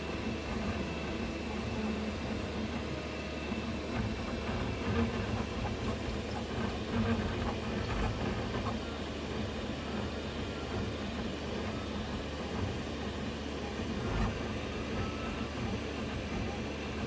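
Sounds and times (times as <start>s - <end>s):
printer hum: 0.0s - 17.0s.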